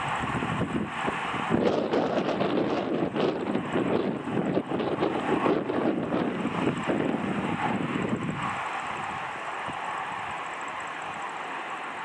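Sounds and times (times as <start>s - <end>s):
jet engines running: 0.0s - 12.0s
wind buffeting microphone: 0.0s - 12.0s.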